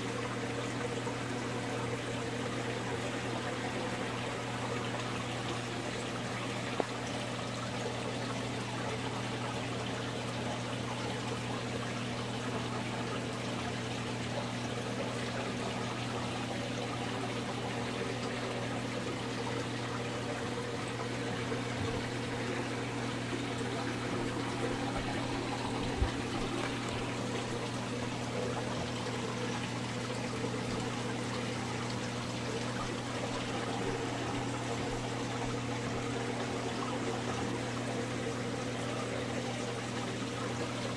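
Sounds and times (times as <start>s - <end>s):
low pump hum: 0.0s - 40.9s
trickling pouring water: 0.2s - 40.9s.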